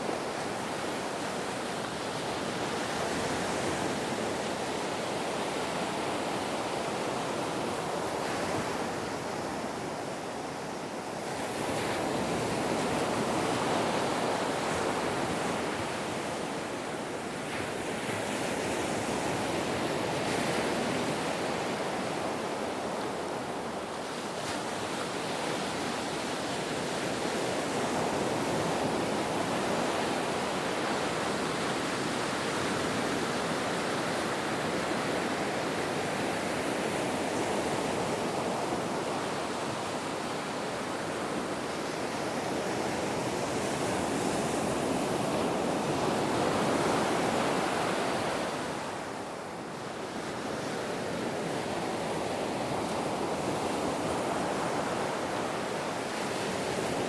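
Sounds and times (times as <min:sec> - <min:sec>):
ocean waves washing on shore: 0:00.0 - 0:57.0.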